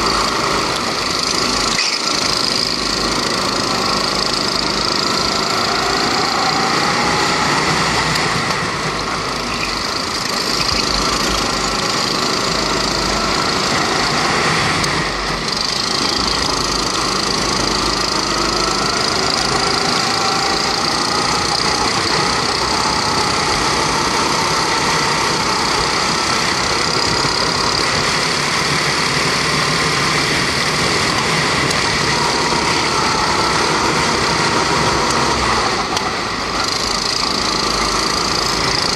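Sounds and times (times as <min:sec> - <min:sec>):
go-kart engine running hard: 0:00.0 - 0:38.9.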